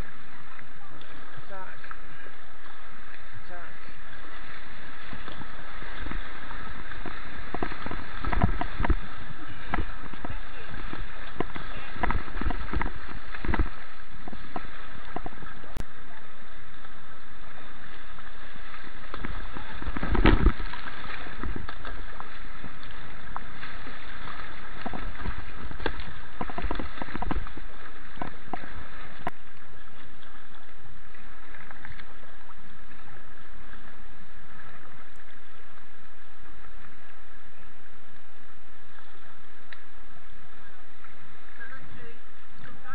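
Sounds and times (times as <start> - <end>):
rushing river water: 0.0 - 42.9
water splashes: 0.0 - 42.9.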